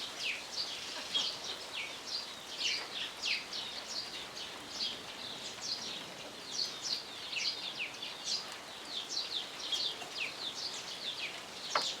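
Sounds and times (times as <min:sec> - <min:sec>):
faint steady hiss: 0:00.0 - 0:12.0
small birds chirping: 0:00.0 - 0:12.0.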